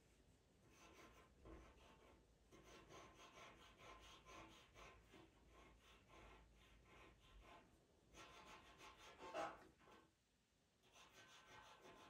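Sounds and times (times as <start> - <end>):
pencil scratching on paper: 0.6 - 10.1, 10.8 - 12.0.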